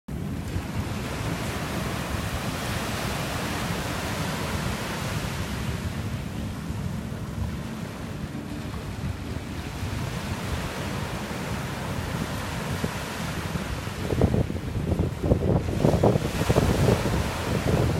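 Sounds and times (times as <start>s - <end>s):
small waves breaking on beach: 0.1s - 17.9s
wind rumble on microphone: 0.1s - 17.9s.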